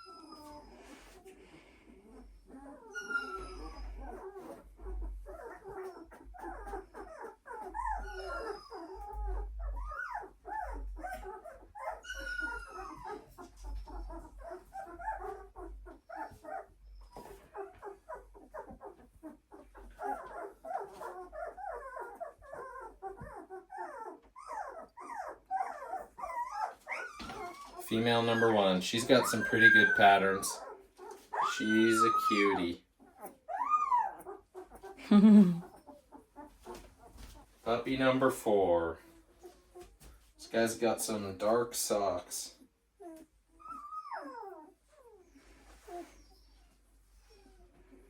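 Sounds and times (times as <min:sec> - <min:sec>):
puppies whimpering and squealing: 0:00.0 - 0:48.0.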